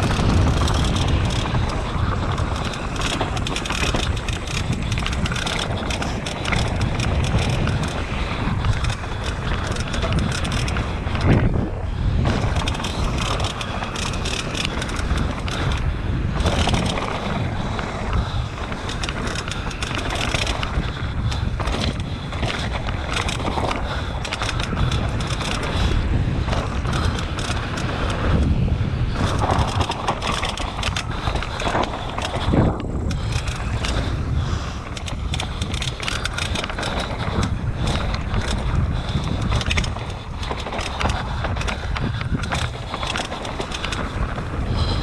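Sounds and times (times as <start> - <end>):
sharp clicks and knocks: 0.0 - 11.5, 12.2 - 28.5, 29.2 - 34.1, 34.8 - 44.9
bike tyres rumbling over rocks: 0.0 - 45.0.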